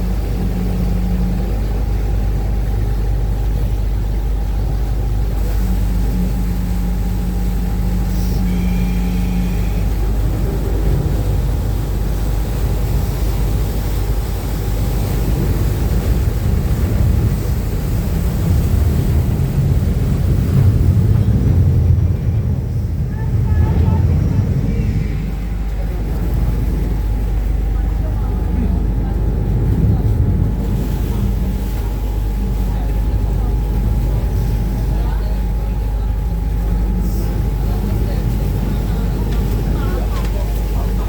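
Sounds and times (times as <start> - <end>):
boat engines droning: 0.0 - 41.0.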